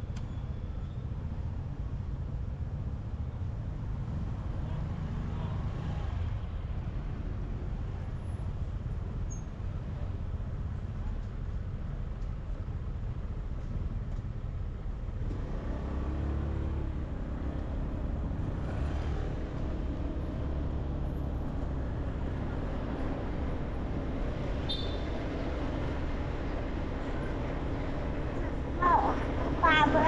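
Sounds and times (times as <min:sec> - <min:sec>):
surrounding traffic noise: 0:00.0 - 0:30.0.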